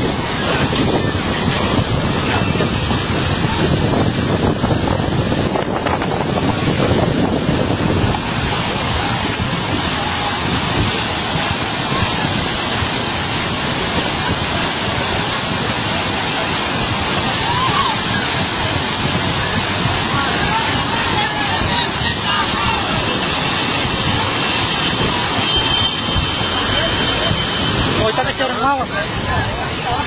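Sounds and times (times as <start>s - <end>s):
wind buffeting microphone: 0.0s - 28.2s
muddy water rushing: 0.0s - 30.0s.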